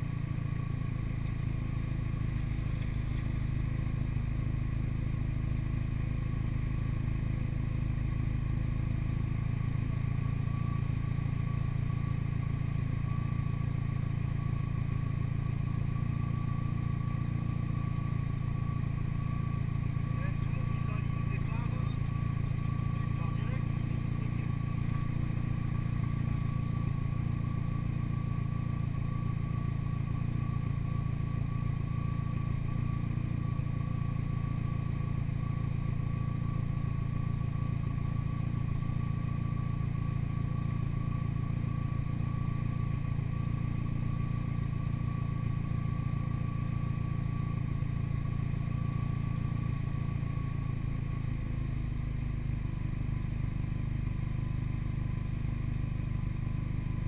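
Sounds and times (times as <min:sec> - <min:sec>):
car engine idling: 0:00.0 - 0:57.0
thin steady whine: 0:00.0 - 0:57.0.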